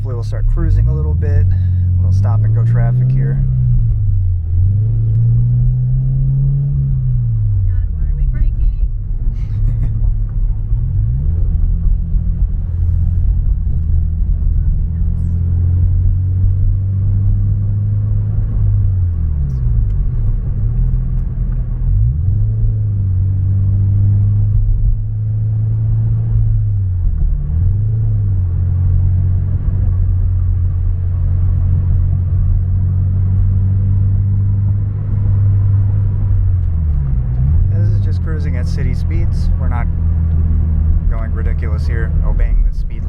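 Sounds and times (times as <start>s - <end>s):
car engine droning in cabin: 0.0s - 43.0s.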